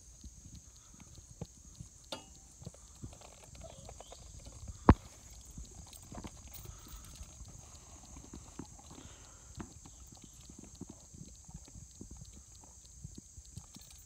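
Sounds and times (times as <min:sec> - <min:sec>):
horse hooves clip-clopping on pavement: 0:00.0 - 0:14.0.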